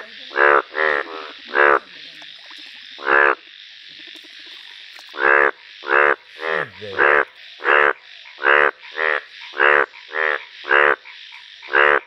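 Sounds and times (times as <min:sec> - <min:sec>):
bullfrog croaking: 0:00.0 - 0:12.0.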